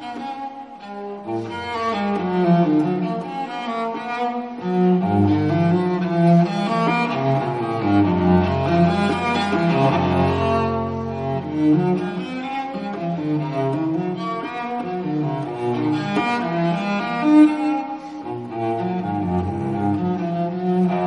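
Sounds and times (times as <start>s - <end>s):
bowed string music: 0.0s - 21.0s
cello holding notes: 0.0s - 21.0s.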